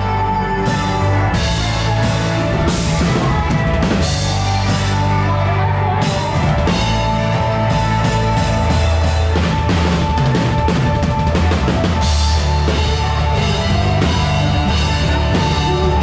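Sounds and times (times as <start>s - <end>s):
steady low bass: 0.0s - 16.0s
sustained electric guitar: 0.0s - 16.0s
drum kit with cymbal crashes: 0.7s - 5.3s, 6.0s - 16.0s.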